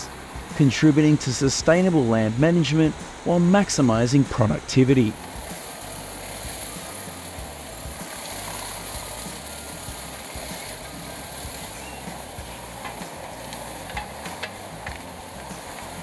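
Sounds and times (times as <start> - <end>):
wood chipper running: 0.0 - 16.0.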